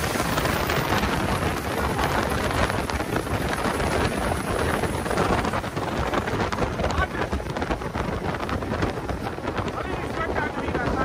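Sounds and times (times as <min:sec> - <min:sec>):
boat engine running hard: 0:00.0 - 0:11.0
wind buffeting microphone: 0:00.0 - 0:11.0.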